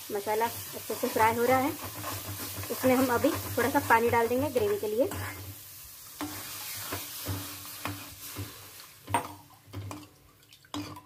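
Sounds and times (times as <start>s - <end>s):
masala sizzling in a pan: 0.0s - 11.0s.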